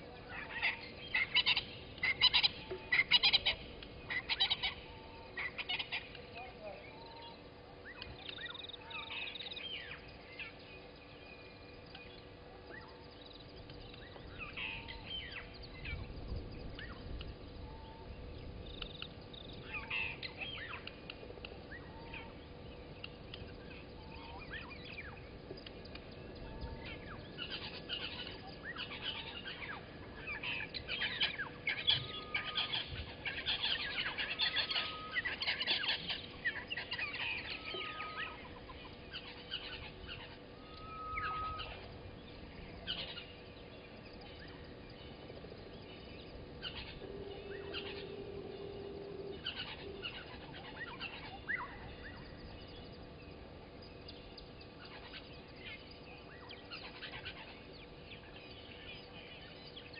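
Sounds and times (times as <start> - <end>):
birds chirping and whistling: 0.3 - 59.9.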